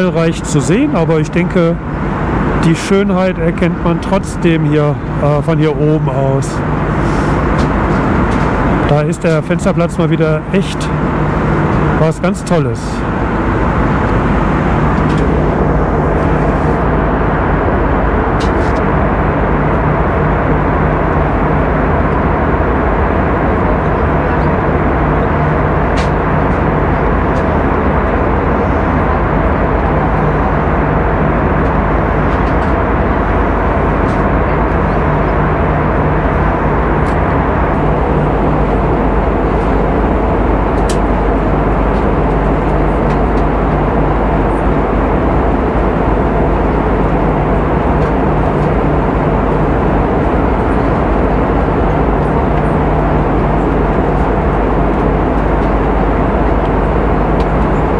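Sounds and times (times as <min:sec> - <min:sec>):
airplane cabin rushing noise: 0:00.0 - 0:57.9
low engine hum: 0:00.0 - 0:57.9.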